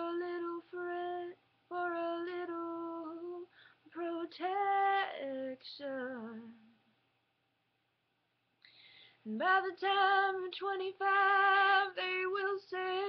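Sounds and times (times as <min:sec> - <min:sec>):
woman singing unaccompanied: 0:00.0 - 0:06.8, 0:09.2 - 0:13.0.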